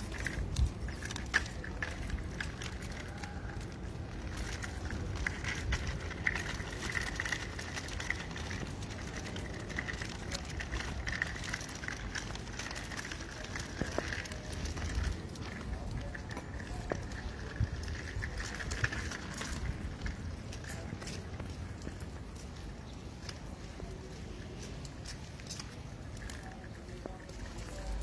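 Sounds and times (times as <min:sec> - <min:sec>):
stroller wheels rolling on concrete: 0:00.0 - 0:28.0.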